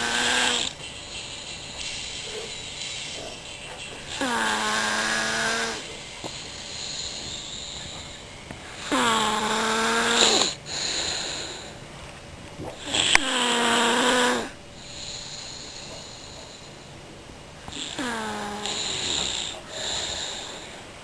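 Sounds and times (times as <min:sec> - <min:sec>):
person snoring: 0:00.0 - 0:00.8, 0:01.8 - 0:11.8, 0:12.8 - 0:16.9, 0:17.6 - 0:21.0
breathy exhales: 0:01.8 - 0:11.8, 0:12.8 - 0:17.0, 0:17.6 - 0:21.0.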